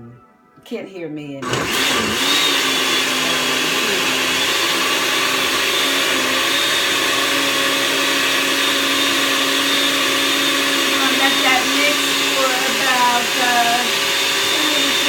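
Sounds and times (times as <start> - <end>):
electric blender whirring: 1.4 - 15.0.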